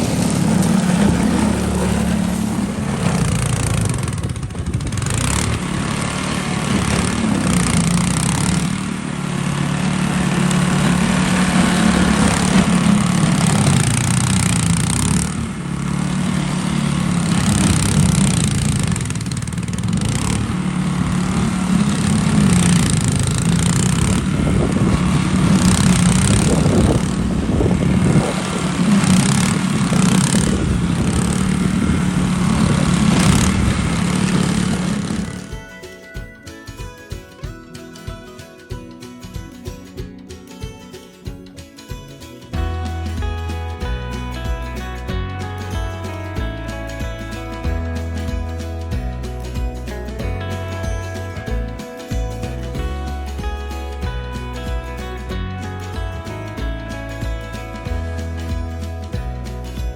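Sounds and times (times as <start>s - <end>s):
snow thrower engine running: 0.0s - 59.9s.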